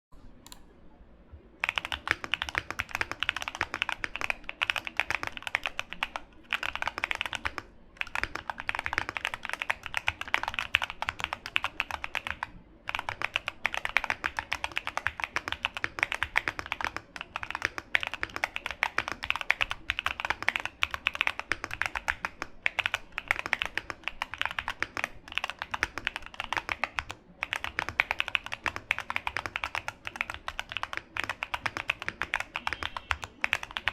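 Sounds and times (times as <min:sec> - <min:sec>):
mechanical keyboard typing: 0:01.6 - 0:33.9.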